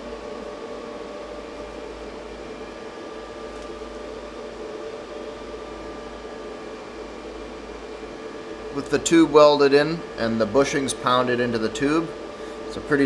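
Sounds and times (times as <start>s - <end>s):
constant fan hum: 0.0s - 13.0s.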